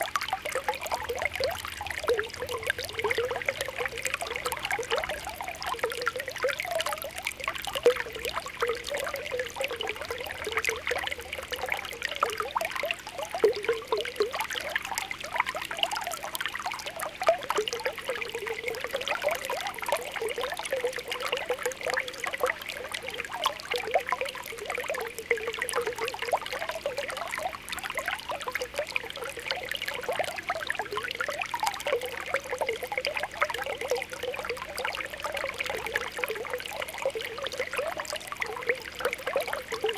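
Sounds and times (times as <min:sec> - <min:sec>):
spring water popping and bubbling: 0:00.0 - 0:39.9
water trickling: 0:00.0 - 0:39.9.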